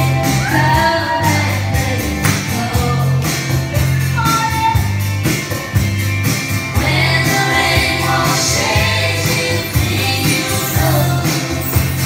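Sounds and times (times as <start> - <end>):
deep bass line: 0.0 - 12.0
song with singing over beat: 0.0 - 12.0.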